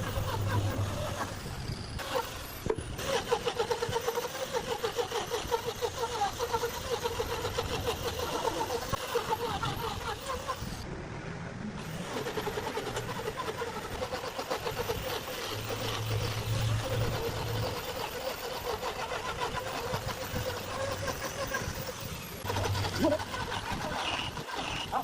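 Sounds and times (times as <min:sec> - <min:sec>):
lathe motor humming: 0:00.0 - 0:10.9, 0:11.8 - 0:25.0
tool cutting spinning wood: 0:00.0 - 0:10.9, 0:11.8 - 0:25.0.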